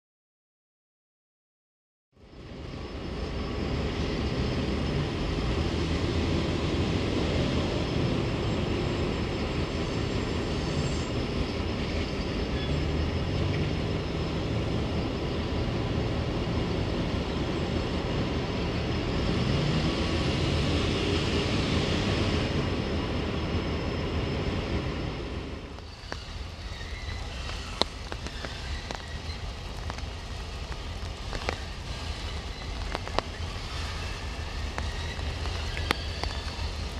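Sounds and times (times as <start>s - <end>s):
diesel locomotive engine drone: 2.1s - 36.9s.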